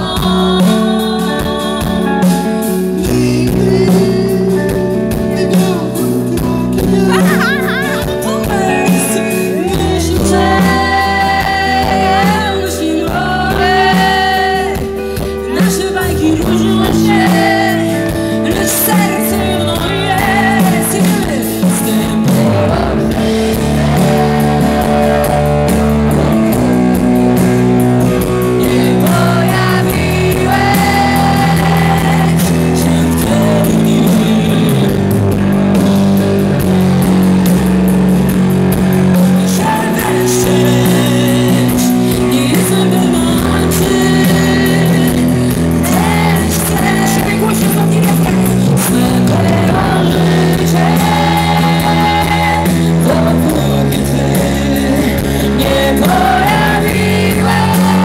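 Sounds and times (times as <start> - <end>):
lead singer: 0.0 - 58.0
live rock band playing: 0.0 - 58.0.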